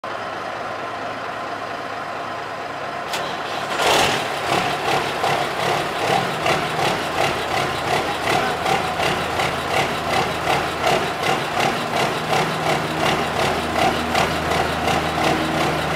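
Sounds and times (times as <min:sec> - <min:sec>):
diesel truck engine starting: 0:00.0 - 0:15.9.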